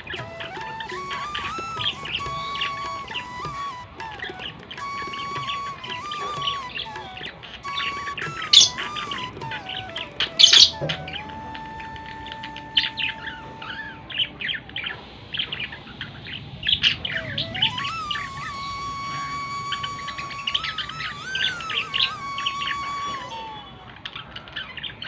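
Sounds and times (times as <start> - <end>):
long whistle-like note: 0.0 - 15.1, 17.0 - 24.6.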